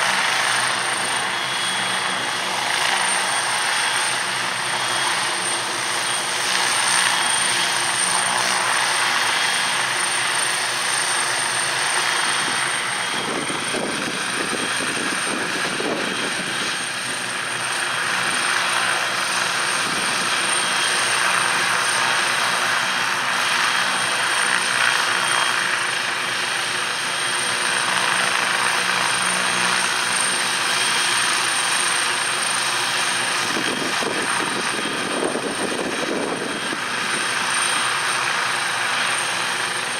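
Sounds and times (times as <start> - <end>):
helicopter rotors and turbine engine: 0.0 - 39.9.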